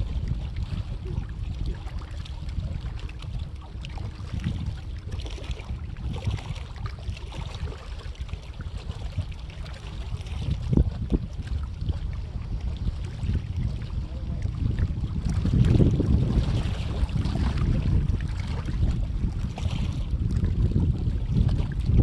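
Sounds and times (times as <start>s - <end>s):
faint water sounds: 0.0s - 22.0s
wind buffeting microphone: 0.0s - 22.0s.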